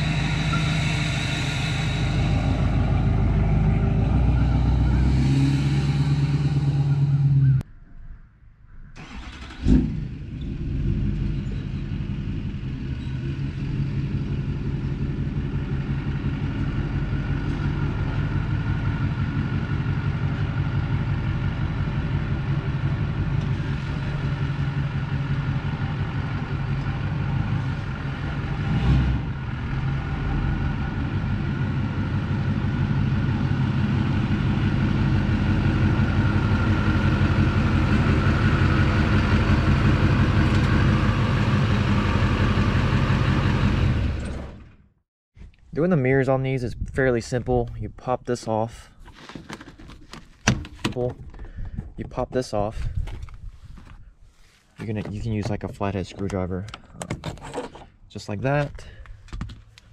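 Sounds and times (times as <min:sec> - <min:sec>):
diesel pickup engine rumbling: 0:00.0 - 0:07.7, 0:09.0 - 0:45.0, 0:46.4 - 0:59.9.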